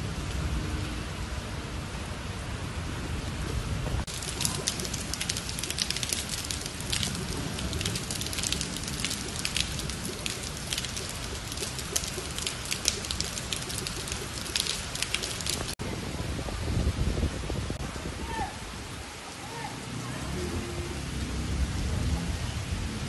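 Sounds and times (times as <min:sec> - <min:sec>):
heavy rain on asphalt: 0:00.0 - 0:23.0.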